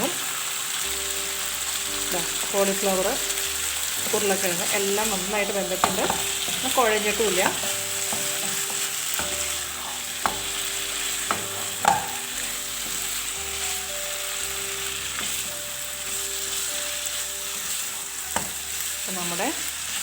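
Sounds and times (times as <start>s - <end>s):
curry sizzling in a pan: 0.0s - 20.0s.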